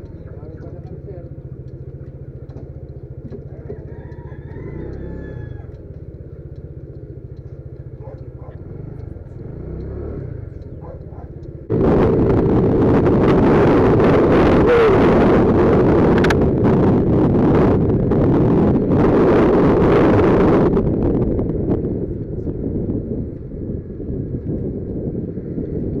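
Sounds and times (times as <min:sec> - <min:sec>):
scooter engine rumbling: 0:00.0 - 0:26.0
wind noise on microphone: 0:02.1 - 0:05.8, 0:08.0 - 0:26.0.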